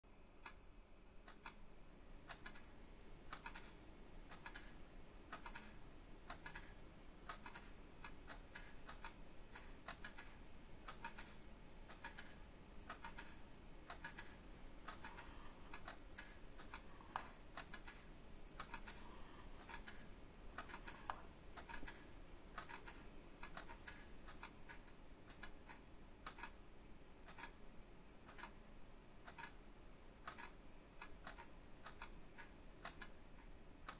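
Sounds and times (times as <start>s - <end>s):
many clocks ticking: 2.3s - 26.6s, 27.2s - 28.6s, 29.2s - 33.9s.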